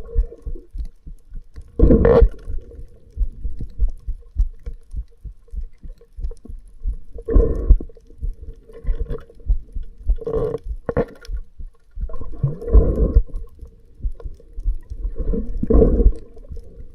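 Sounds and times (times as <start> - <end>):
faint steady hum: 0.0 - 16.9
muffled underwater rumbling: 0.0 - 16.9.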